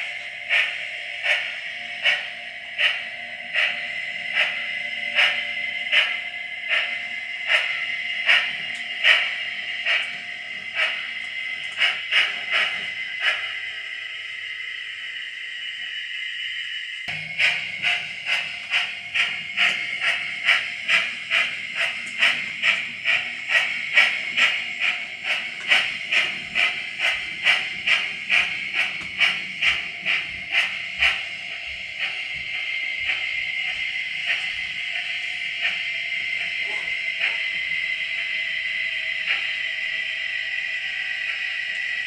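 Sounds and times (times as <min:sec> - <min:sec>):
model steam locomotive chuffing: 0:00.0 - 0:42.0.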